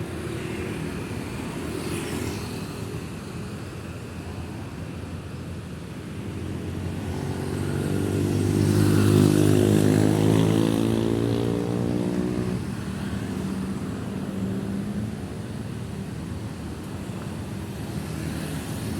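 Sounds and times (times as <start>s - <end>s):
busy street traffic: 0.0s - 18.9s.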